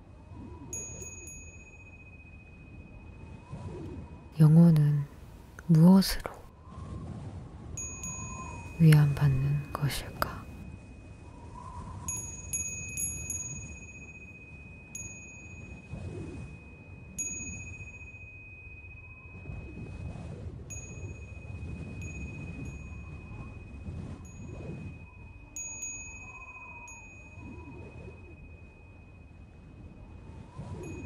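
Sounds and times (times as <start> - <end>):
thin steady high tone: 0.0 - 6.6, 7.7 - 31.0
low rumbling wash: 0.0 - 31.0
chime-like tinkling: 0.6 - 5.4, 7.8 - 31.0.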